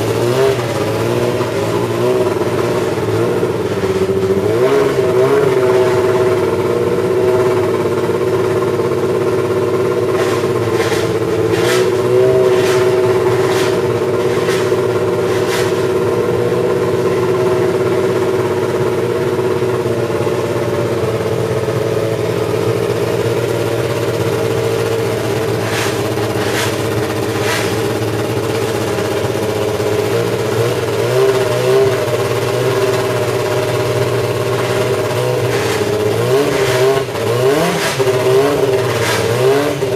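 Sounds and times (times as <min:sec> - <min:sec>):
racing car engine idling: 0:00.0 - 0:39.9.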